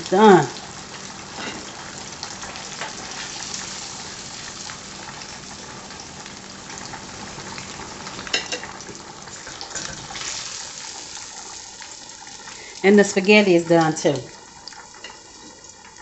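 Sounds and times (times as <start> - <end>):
fish frying in hot oil: 0.0 - 16.0.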